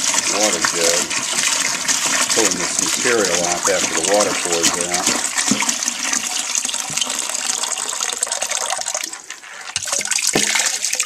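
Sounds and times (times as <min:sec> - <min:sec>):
water pouring from a jug: 0:00.0 - 0:11.0.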